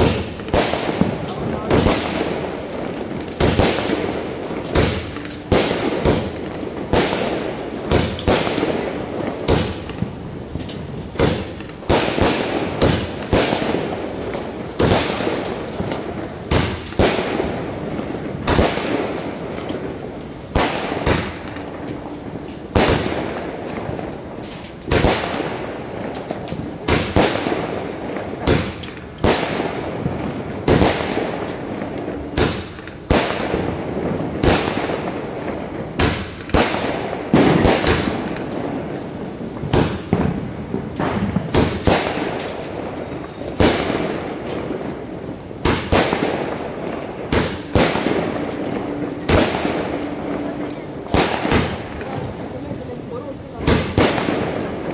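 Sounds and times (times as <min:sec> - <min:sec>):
crackle of bursting fireworks: 0:00.0 - 0:54.9
fireworks bangs: 0:00.0 - 0:54.9.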